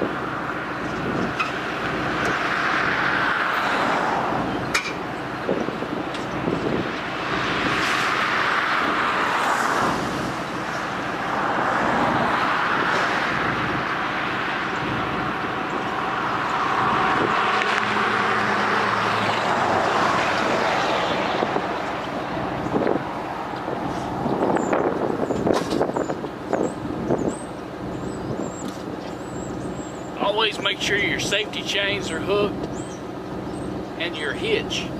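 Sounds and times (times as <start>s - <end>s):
vehicle driving on road: 0.0s - 34.9s.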